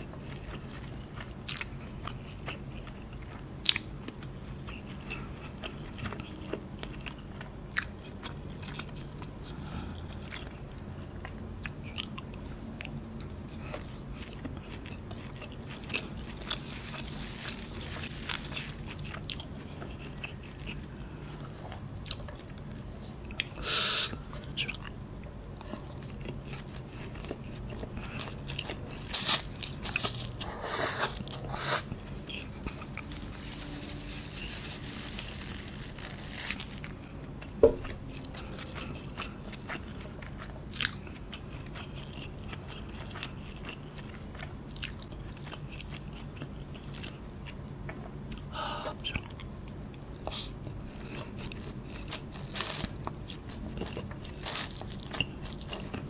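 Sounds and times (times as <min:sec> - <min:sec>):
chewing noodles: 0:00.0 - 0:22.6, 0:25.6 - 0:56.0.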